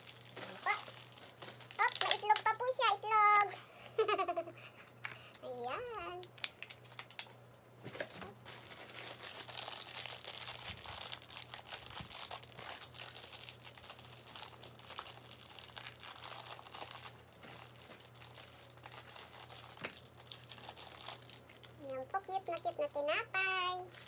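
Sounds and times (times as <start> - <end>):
plastic packaging crinkling: 0.0 - 3.6, 4.8 - 24.0
low electrical hum: 0.0 - 24.0.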